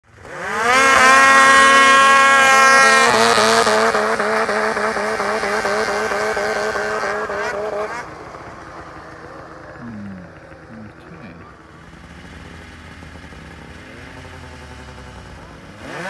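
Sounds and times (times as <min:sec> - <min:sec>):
snowmobile engines revving: 0:00.1 - 0:16.0.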